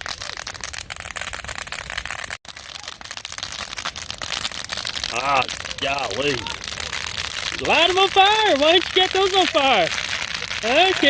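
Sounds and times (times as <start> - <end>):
dry grass crackling in fire: 0.0 - 11.0
low fire rumble: 0.0 - 11.0.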